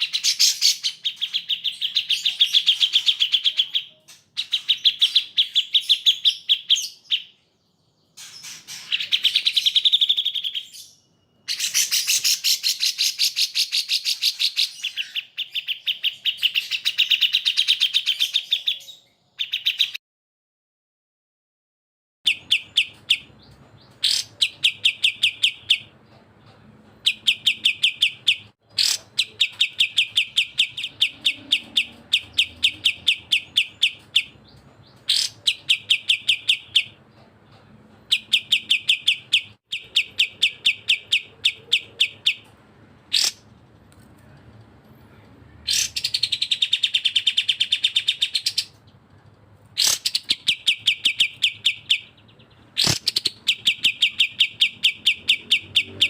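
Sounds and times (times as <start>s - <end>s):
bird trill: 0.0s - 20.0s, 22.3s - 26.0s, 27.0s - 37.0s, 38.1s - 43.5s, 49.8s - 56.0s
bulbul chirping song: 0.0s - 20.0s, 22.3s - 26.3s, 26.9s - 43.5s, 45.6s - 48.9s, 49.8s - 56.0s.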